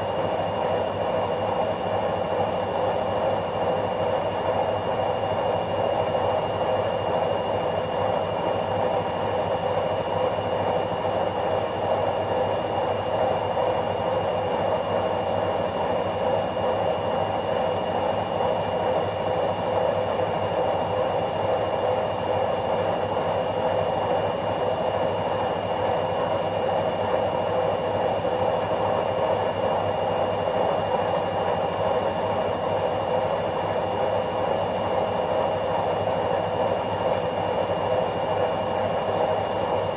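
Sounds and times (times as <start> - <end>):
washing machine whirring hum: 0.0 - 39.9.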